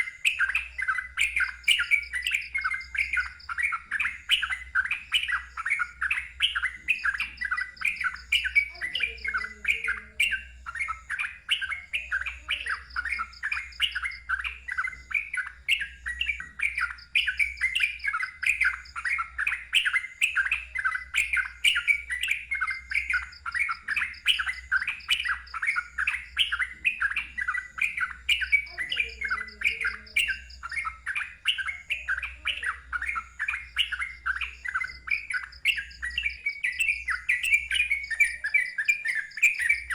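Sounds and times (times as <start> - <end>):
bird chattering song: 0.0 - 39.9
faint high bird trill: 0.0 - 39.9.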